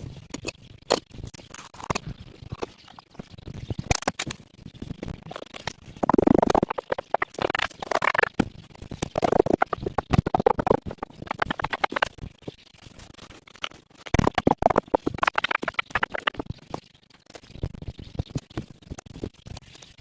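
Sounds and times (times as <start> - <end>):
scratching and scraping handling: 0.0 - 20.0.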